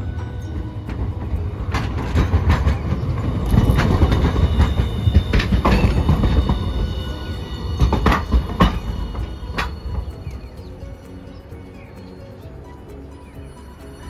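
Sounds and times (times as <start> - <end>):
tram wheels rumbling on rails: 0.0 - 14.0
wheels clacking over track joints: 0.0 - 14.0.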